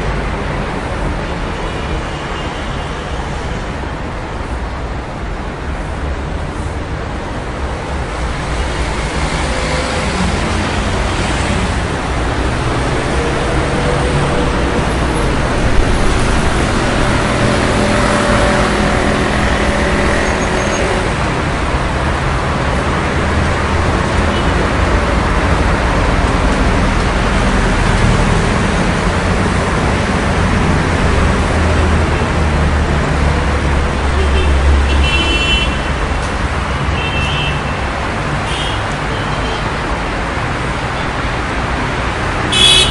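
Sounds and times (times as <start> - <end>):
city traffic passing: 0.0 - 42.9.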